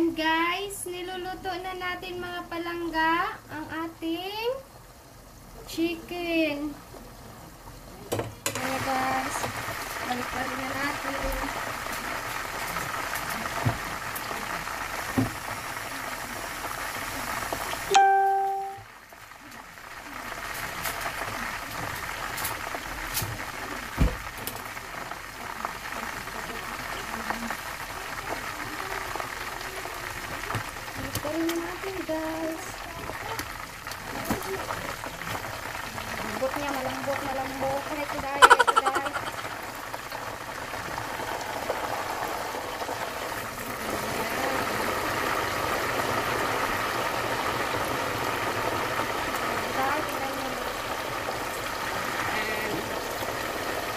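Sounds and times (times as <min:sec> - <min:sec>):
chicken sizzling in hot oil: 0:00.2 - 0:53.9
oil crackles and pops: 0:07.8 - 0:53.9.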